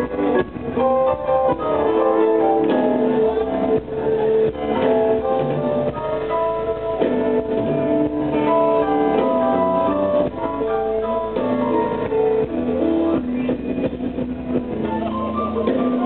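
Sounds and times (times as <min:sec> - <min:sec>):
blues band playing live: 0:00.0 - 0:16.0.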